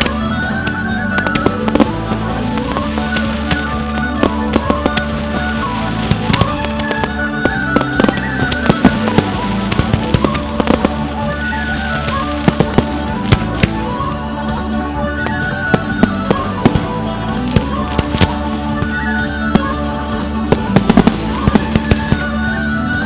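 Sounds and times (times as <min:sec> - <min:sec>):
fireworks bangs and crackles: 0:00.0 - 0:23.0
music: 0:00.0 - 0:23.0.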